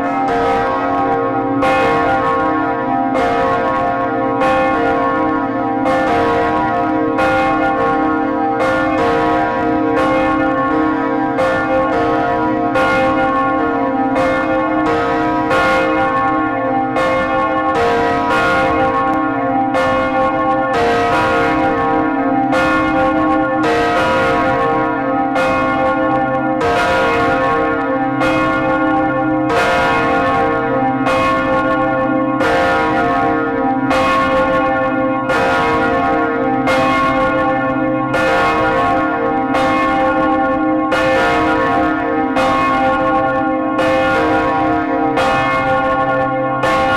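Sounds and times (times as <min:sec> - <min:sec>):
church bells tolling: 0:00.0 - 0:46.9.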